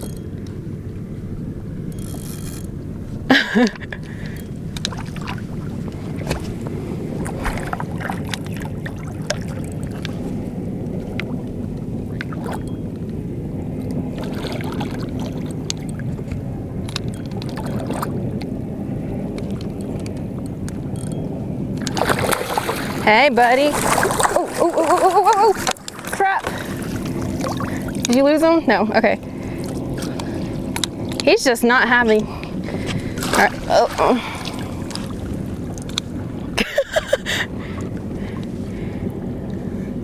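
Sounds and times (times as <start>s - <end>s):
small boat noise: 0.0s - 40.0s.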